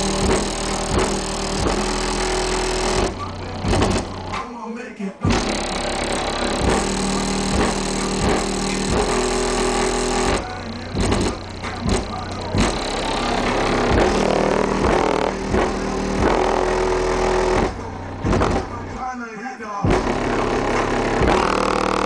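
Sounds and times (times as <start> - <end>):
loud music with heavy bass: 0.0 - 22.0.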